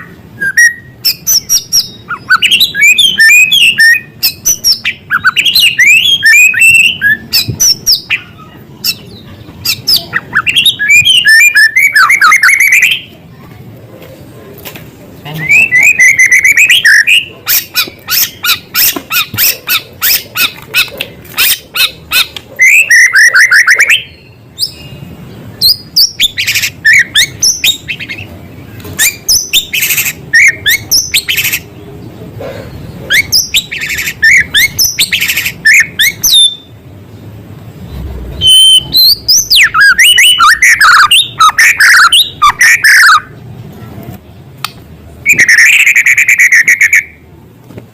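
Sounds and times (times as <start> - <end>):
songbird singing trills: 0.0 - 13.2, 15.2 - 43.4.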